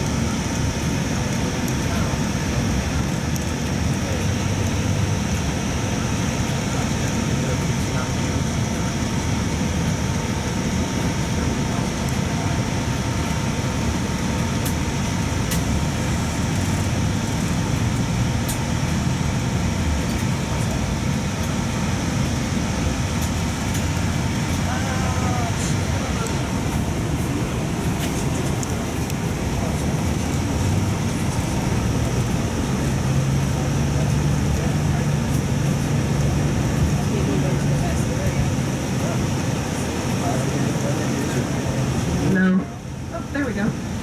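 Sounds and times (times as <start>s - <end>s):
bus engine and road rumble: 0.0s - 44.0s
faint voices: 0.1s - 17.8s, 20.1s - 44.0s.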